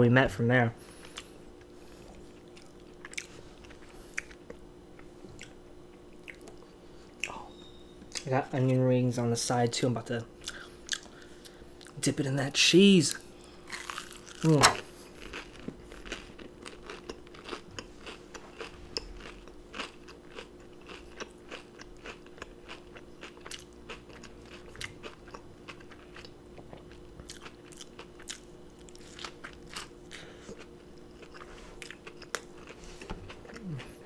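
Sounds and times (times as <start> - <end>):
faint steady hum: 0.0 - 34.0
crunchy chewing: 0.9 - 7.4, 13.1 - 34.0.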